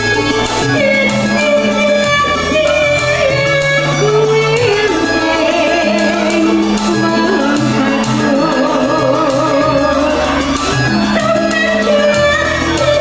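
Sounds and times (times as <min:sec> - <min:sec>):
keyboard: 0:00.0 - 0:13.0
steady bass line: 0:00.0 - 0:13.0
woman singing into a microphone: 0:00.0 - 0:13.0.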